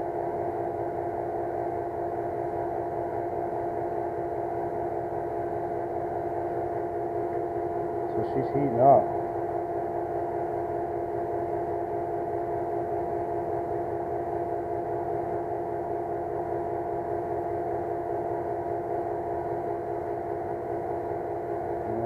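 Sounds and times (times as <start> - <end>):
pool heater humming: 0.0 - 22.0.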